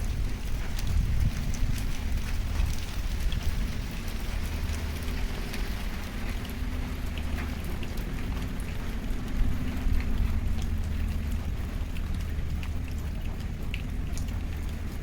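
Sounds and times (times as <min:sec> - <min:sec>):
heavy rain falling: 0:00.0 - 0:15.0
raindrops ticking on surfaces: 0:00.0 - 0:15.0.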